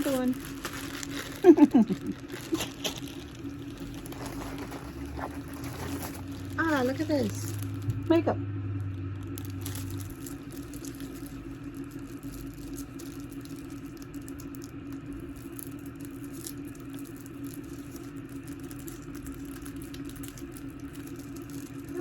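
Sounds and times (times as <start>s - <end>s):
package being handled and opened: 0.0s - 8.1s, 9.2s - 22.0s
steady low hum: 0.0s - 22.0s.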